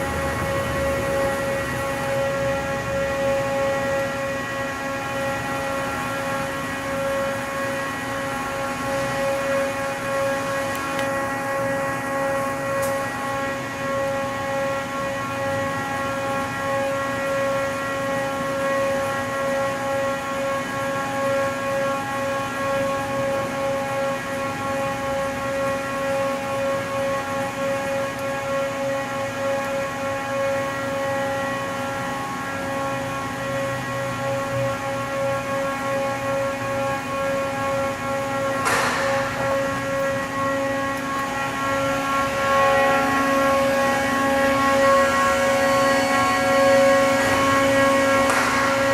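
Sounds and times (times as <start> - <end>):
machine whine: 0.0 - 48.9.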